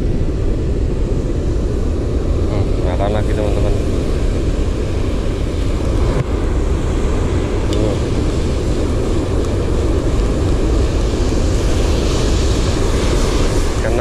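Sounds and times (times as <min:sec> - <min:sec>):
surf breaking on beach: 0:02.2 - 0:14.0.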